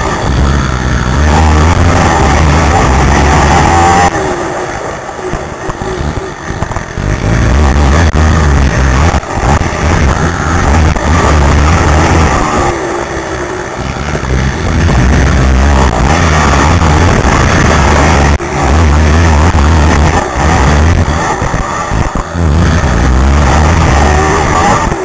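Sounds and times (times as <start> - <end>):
quad engine at hard throttle: 0.0 - 25.0.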